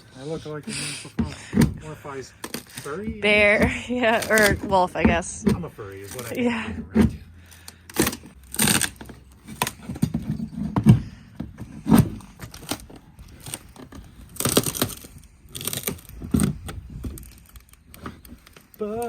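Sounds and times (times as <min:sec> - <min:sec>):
wood knocking and cracking: 0:01.2 - 0:06.3, 0:07.9 - 0:19.0.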